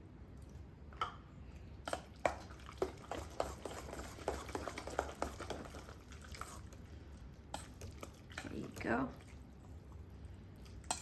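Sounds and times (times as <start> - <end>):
pasta stirred in sauce squelching: 0.2 - 11.0.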